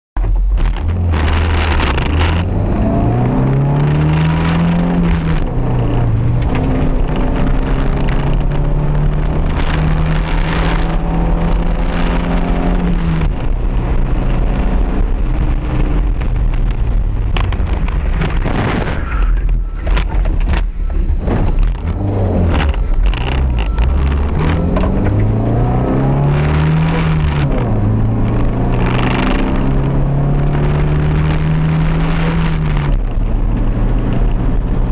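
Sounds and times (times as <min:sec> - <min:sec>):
rough noise: 0:00.2 - 0:34.9
car engine revving: 0:00.3 - 0:34.9.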